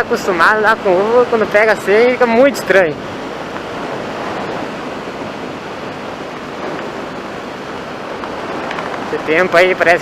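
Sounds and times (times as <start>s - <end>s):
wind rush on microphone: 0.0s - 10.0s.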